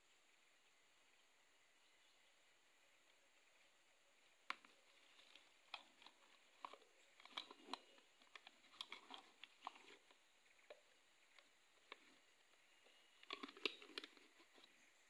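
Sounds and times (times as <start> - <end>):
faint clicks and crackles: 2.8 - 15.0.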